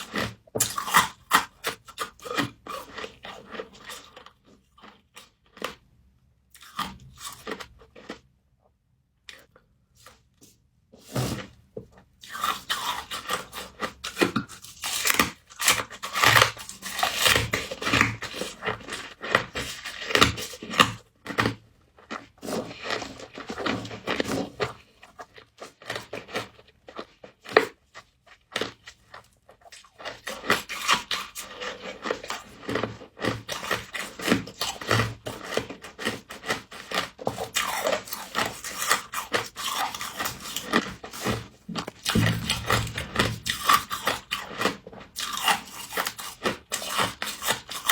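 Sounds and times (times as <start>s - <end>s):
crunching and chewing frost: 0.0s - 8.4s, 9.2s - 47.9s.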